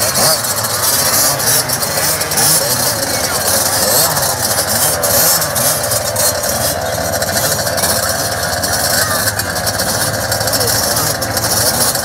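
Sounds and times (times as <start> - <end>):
minibike engines idling and blipping: 0.0 - 12.0.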